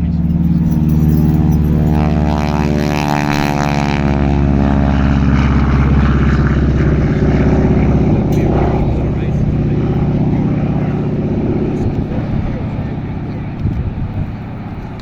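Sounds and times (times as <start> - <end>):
propeller plane passing by: 0.0 - 15.0.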